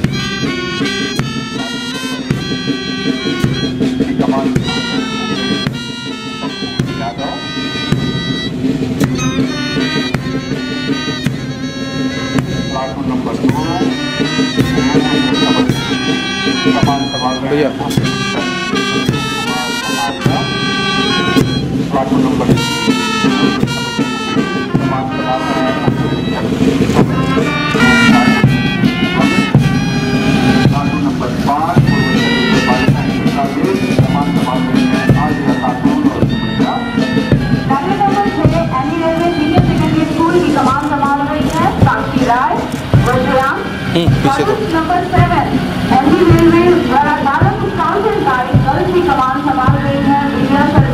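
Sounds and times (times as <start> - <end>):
bagpipe melody over drone: 0.0 - 41.0
drum beat: 0.0 - 50.9
wind instruments playing march: 0.0 - 50.9.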